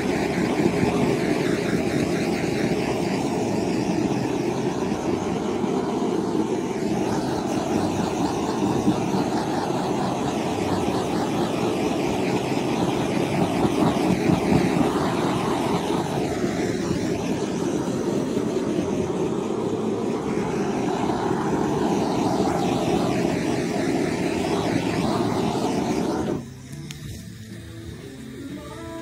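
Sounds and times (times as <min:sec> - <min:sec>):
compressed air gun blowing: 0:00.0 - 0:29.0.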